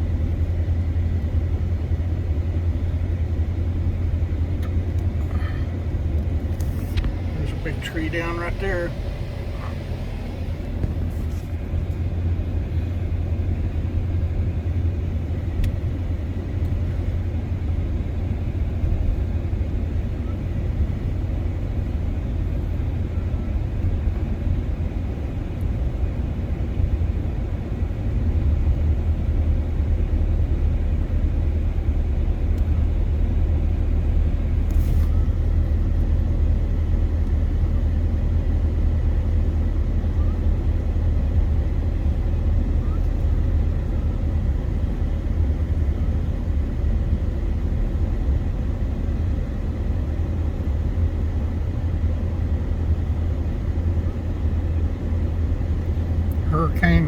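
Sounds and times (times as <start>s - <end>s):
truck engine and tyres rumbling: 0.0s - 57.0s.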